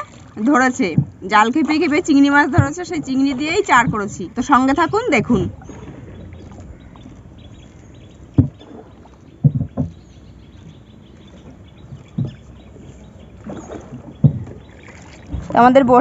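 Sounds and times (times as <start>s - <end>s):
moving water: 0.0s - 16.0s
oars knocking on wooden hull: 0.0s - 16.0s.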